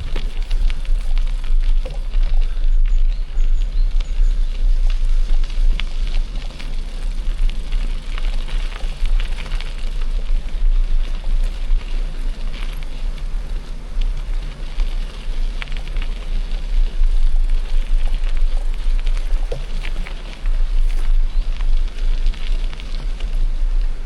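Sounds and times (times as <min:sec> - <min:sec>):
bike clicks and rattles: 0:00.0 - 0:24.0
steady low rumble: 0:00.0 - 0:24.0
tyres crunching on loose stones: 0:00.0 - 0:24.0.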